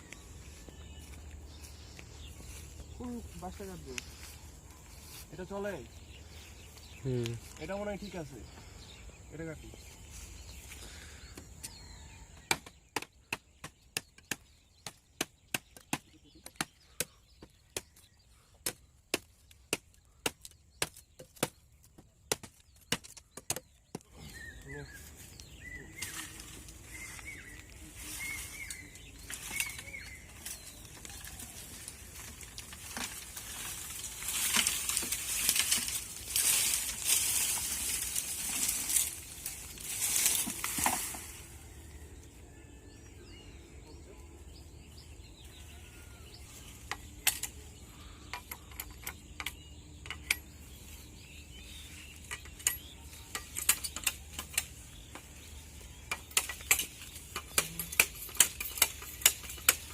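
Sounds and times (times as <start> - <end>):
bamboo leaves and stems rustling: 0.0 - 12.4, 17.8 - 42.8, 45.4 - 49.5, 50.1 - 59.9.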